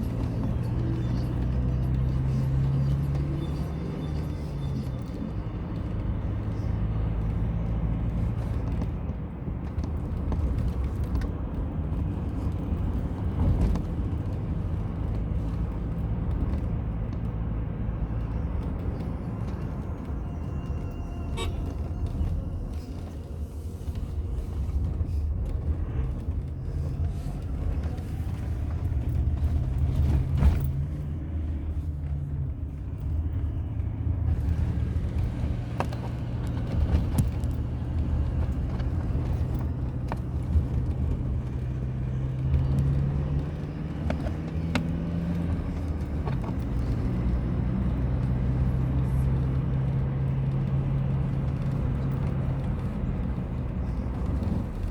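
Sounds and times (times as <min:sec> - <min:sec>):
car engine hum and road rumble: 0:00.0 - 0:54.9.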